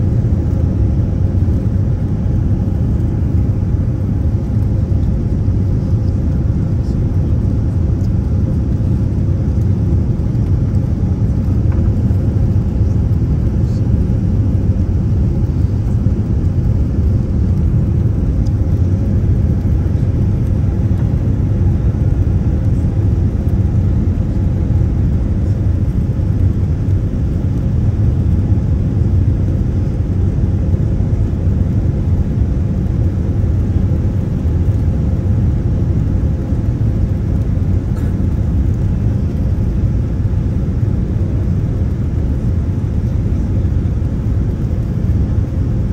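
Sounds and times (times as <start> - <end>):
airliner cabin noise: 0.0 - 45.9.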